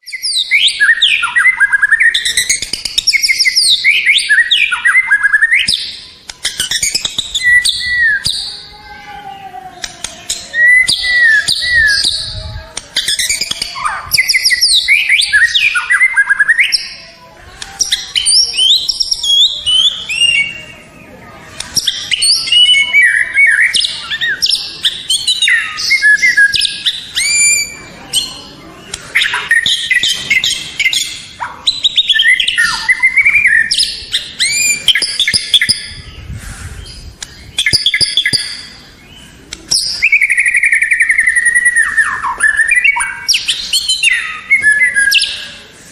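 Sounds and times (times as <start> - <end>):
bird singing varied song: 0.0 - 45.7.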